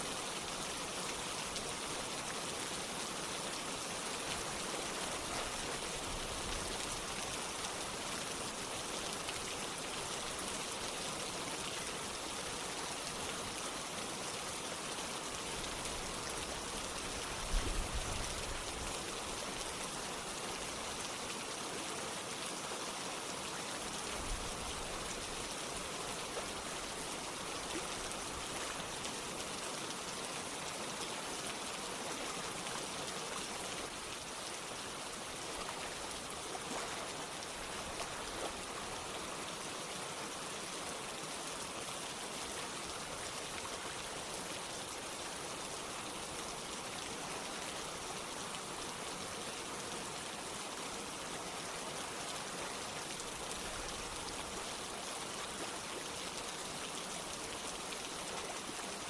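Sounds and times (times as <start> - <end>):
running water: 0.0 - 59.0
steady rain: 0.0 - 59.0.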